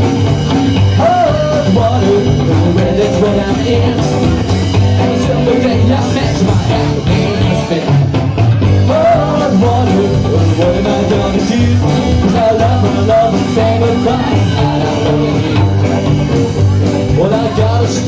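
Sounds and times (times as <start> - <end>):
bass: 0.0 - 18.0
blues band playing: 0.0 - 18.0.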